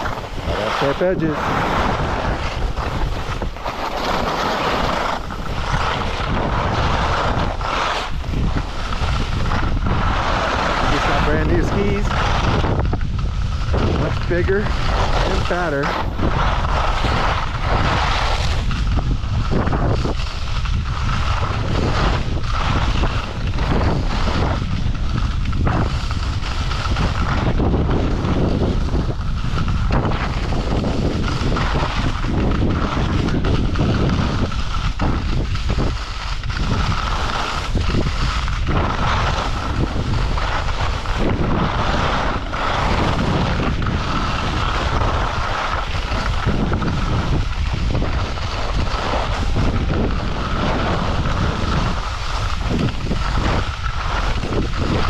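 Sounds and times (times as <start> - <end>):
skis scraping over packed snow: 0.0 - 55.0
wind buffeting microphone: 0.0 - 55.0.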